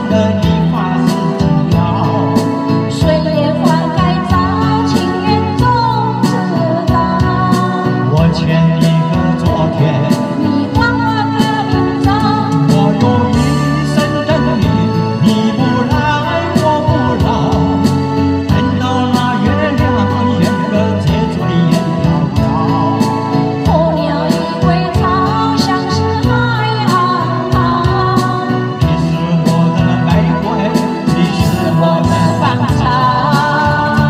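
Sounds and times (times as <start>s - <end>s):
instrumental accompaniment: 0.0s - 34.0s
man and woman singing duet: 0.0s - 34.0s
steady drum beat: 0.1s - 34.0s.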